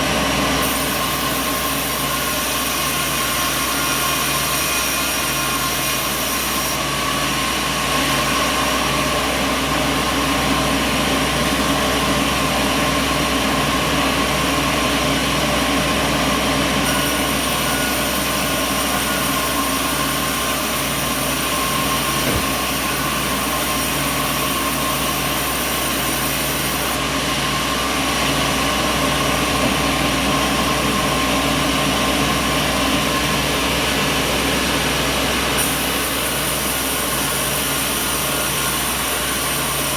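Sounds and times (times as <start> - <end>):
sawmill machinery hum and whine: 0.0 - 39.9.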